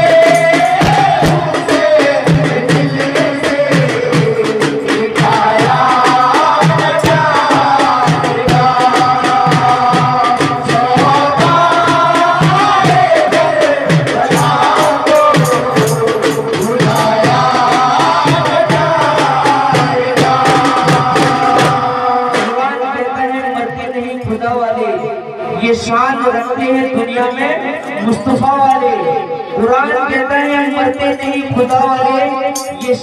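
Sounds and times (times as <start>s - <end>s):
steady drum beat: 0.0s - 33.0s.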